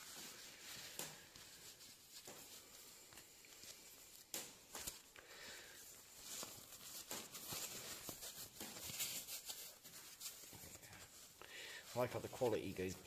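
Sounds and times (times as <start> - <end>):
rustling of gear handling: 0.0 - 13.0
steady hiss: 0.0 - 13.0.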